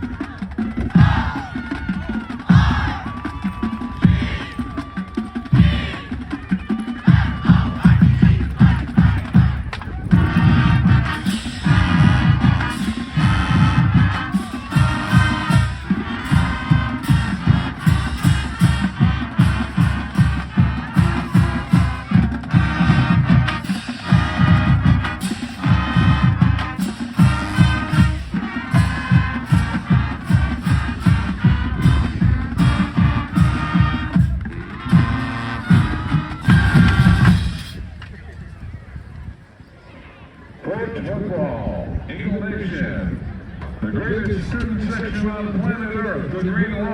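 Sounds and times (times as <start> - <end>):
marching band music: 0.0 - 38.0.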